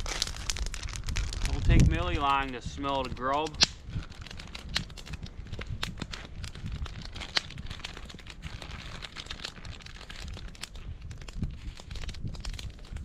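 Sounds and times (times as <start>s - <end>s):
campfire crackling and popping: 0.0s - 13.0s
plastic package crinkling: 0.0s - 13.0s.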